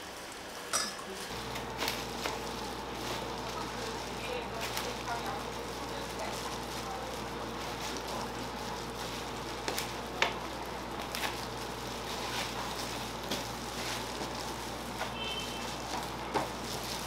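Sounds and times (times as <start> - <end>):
food sizzling while frying: 0.0 - 17.0.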